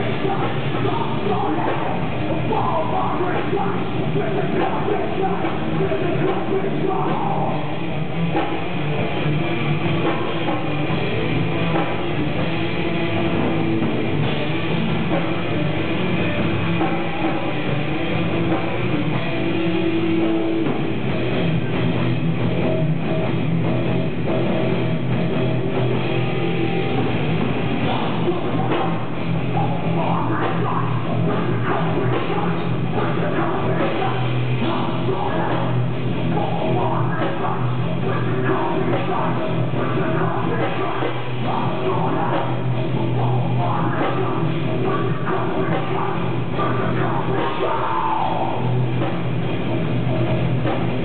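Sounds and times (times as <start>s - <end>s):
heavy rock music over car audio: 0.0s - 51.0s.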